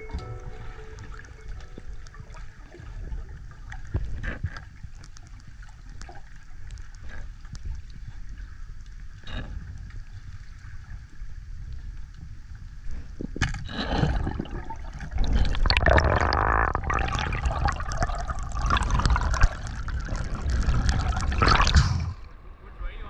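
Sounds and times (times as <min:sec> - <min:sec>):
bubbles crackling and splashes: 0:00.0 - 0:11.7, 0:13.2 - 0:22.4
water sloshing and gurgling: 0:00.0 - 0:22.6.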